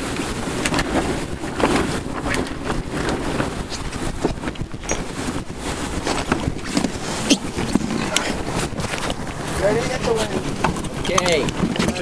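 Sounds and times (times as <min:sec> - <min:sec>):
clothing rustling on camera: 0:00.0 - 0:12.0
water rushing along hull: 0:00.0 - 0:12.0
wind buffeting microphone: 0:00.0 - 0:12.0.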